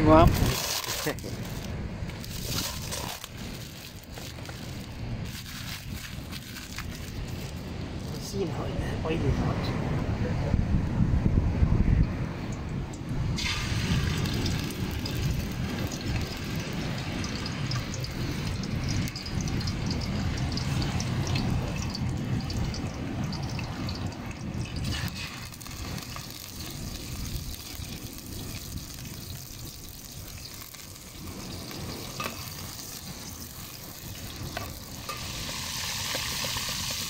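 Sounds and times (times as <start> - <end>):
fish sizzling in hot oil: 0.0 - 8.2, 13.4 - 37.0.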